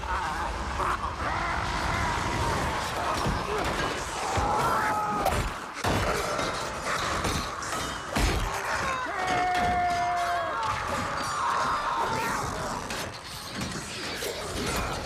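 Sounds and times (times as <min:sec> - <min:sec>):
people yelling: 0:00.0 - 0:13.2.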